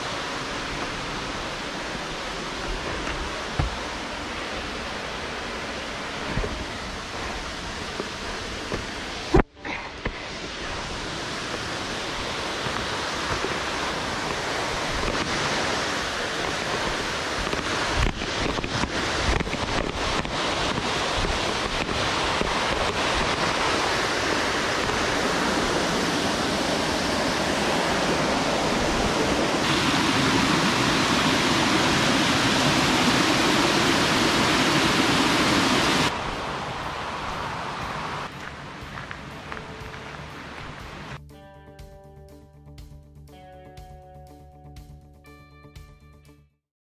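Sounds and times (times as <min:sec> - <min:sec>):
waterfall rushing: 0:00.0 - 0:41.2.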